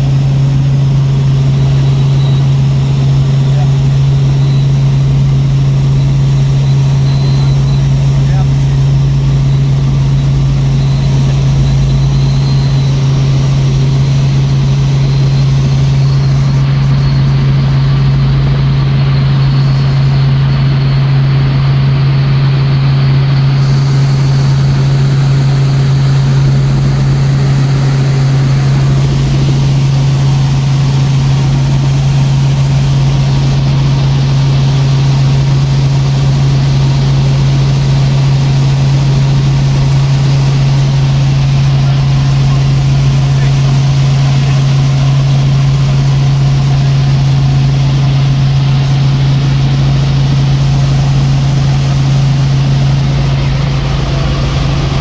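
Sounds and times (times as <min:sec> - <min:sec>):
helicopter cabin drone: 0:00.0 - 0:55.0.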